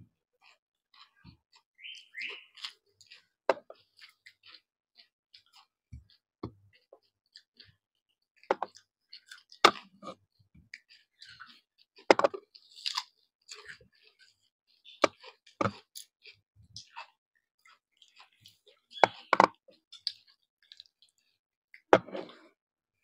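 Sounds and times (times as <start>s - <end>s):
chewing and lip-smacking: 0.4s - 21.9s.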